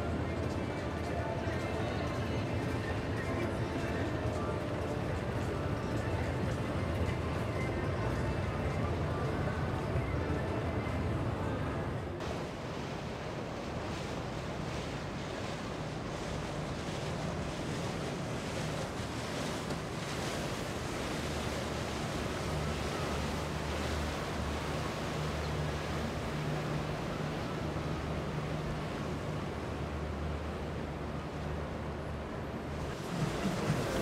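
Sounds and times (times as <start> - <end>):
boat engines humming: 0.0 - 34.0
water wash: 0.0 - 34.0.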